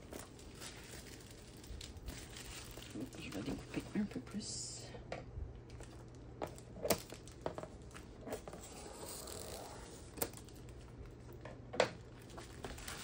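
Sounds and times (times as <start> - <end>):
plastic shrink wrap crinkling: 0.0 - 4.4, 5.6 - 13.0.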